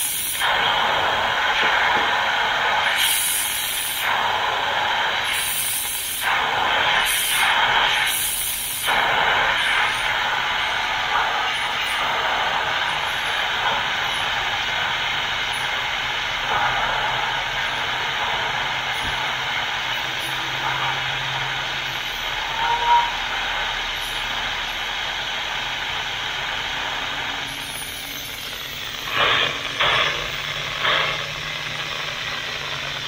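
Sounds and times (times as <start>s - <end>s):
pressure cooker venting steam: 0.0s - 33.0s.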